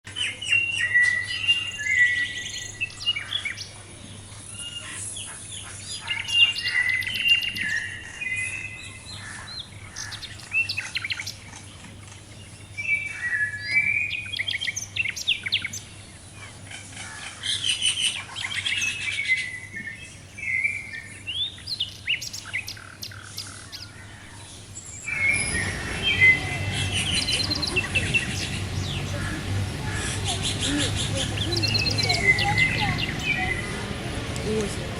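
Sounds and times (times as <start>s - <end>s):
songbirds chirping and trilling: 0.1s - 34.9s
steady background noise: 0.1s - 34.9s.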